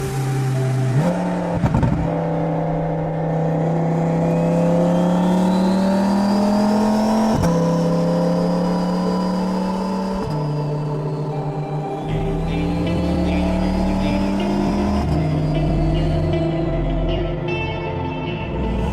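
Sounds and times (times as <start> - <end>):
car engine pulling under load: 0.0 - 17.3.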